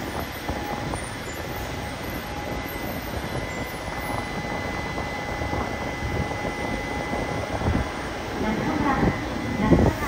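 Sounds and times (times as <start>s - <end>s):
train high whine: 0.0s - 10.0s
train low rumble: 0.0s - 10.0s.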